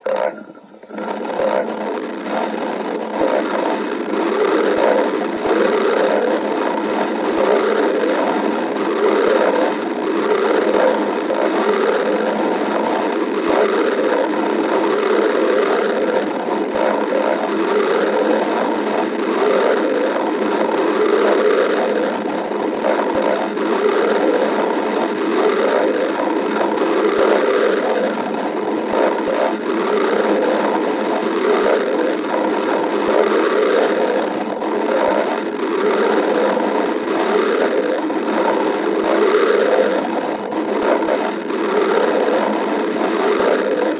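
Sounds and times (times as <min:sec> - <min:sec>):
stomach growling: 0:00.0 - 0:43.9.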